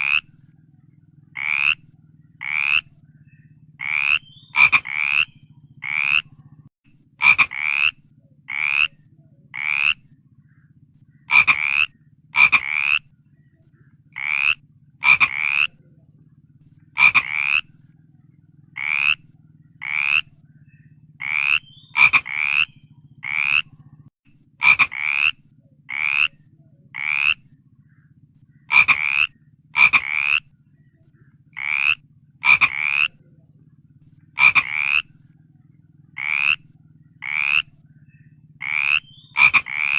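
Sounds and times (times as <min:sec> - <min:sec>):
frog croaking: 0:00.0 - 0:13.2, 0:14.0 - 0:30.6, 0:31.4 - 0:39.9
faint low hum: 0:00.0 - 0:39.9.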